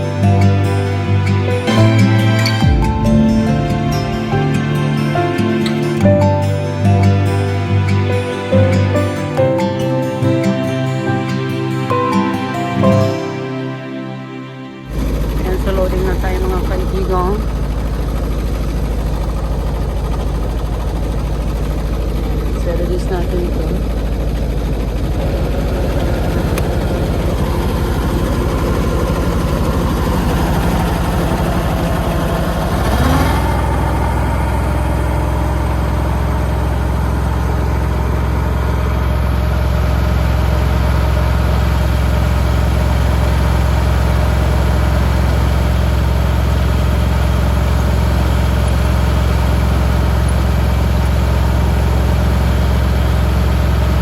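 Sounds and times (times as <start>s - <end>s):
combine harvester engine running: 0.0s - 14.1s, 14.8s - 54.0s.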